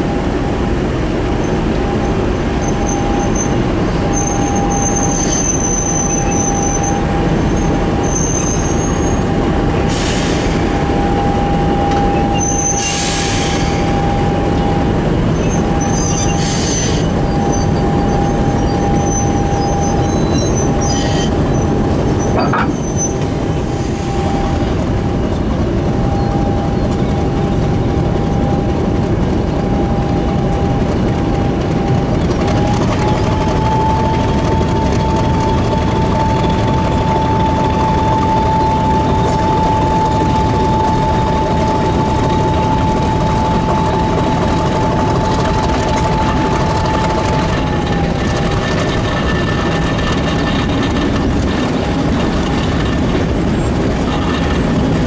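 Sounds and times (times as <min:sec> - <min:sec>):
constant whine: 0:00.0 - 0:55.0
train wheels and machinery rumbling: 0:00.0 - 0:55.0
high-pitched wheel squeals: 0:01.4 - 0:55.0.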